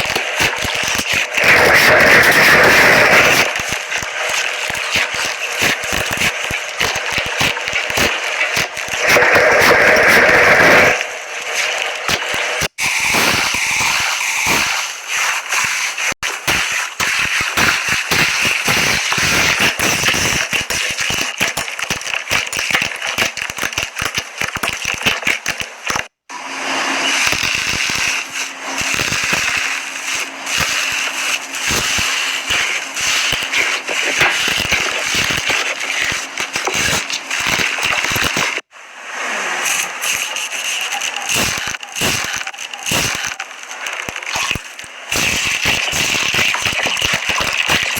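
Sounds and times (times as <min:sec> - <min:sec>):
slime crackling and popping: 0:00.0 - 0:26.1, 0:27.2 - 0:38.6, 0:39.6 - 0:47.9.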